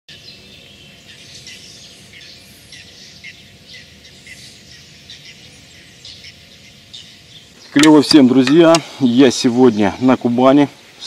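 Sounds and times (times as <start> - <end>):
faint background noise: 0.1 - 11.0
songbirds chirping and singing: 0.1 - 11.0.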